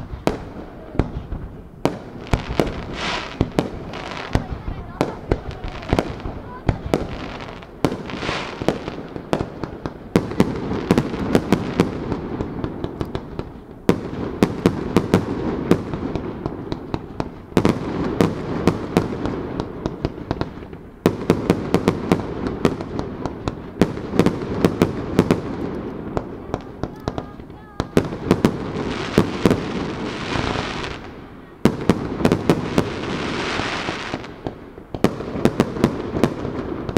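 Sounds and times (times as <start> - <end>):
fireworks cracking: 0.0 - 36.9
low fireworks rumble: 0.0 - 36.9.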